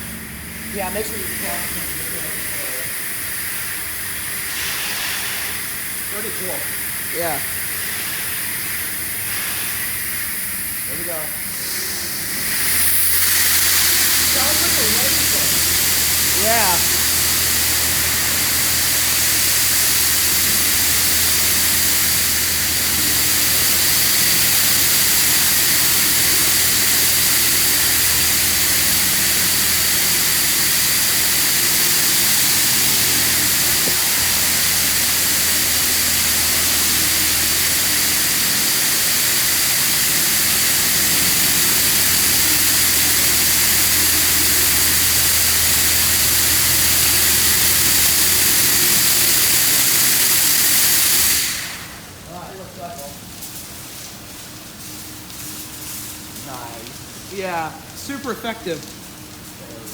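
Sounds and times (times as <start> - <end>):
high-pressure water jets hissing: 0.0 - 59.9
pump humming: 0.0 - 59.9.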